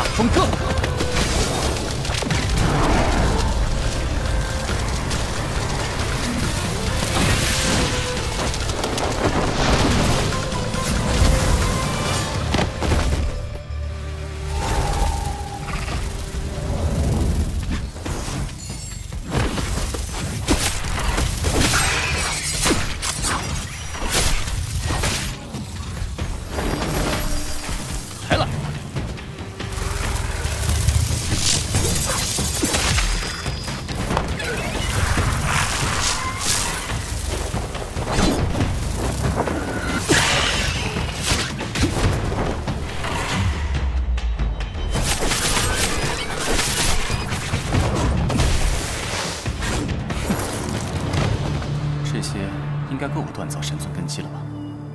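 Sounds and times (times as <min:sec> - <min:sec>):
music: 0:00.0 - 0:54.9.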